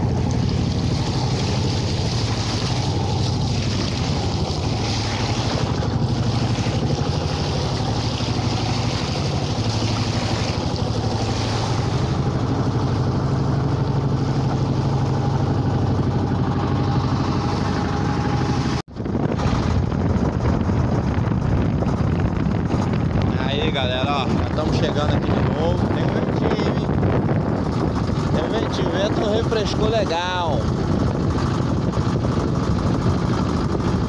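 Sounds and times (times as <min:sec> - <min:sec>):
boat engine running: 0:00.0 - 0:34.0
water rushing along hull: 0:00.0 - 0:34.0
wind on microphone: 0:00.0 - 0:34.0.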